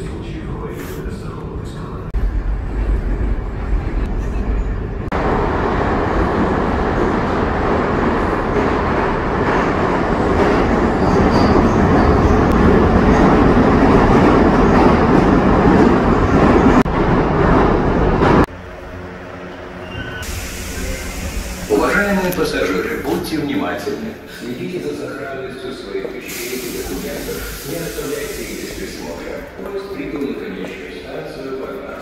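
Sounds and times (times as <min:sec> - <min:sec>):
train low rumble: 0:00.0 - 0:32.0
train rushing noise: 0:00.0 - 0:32.0.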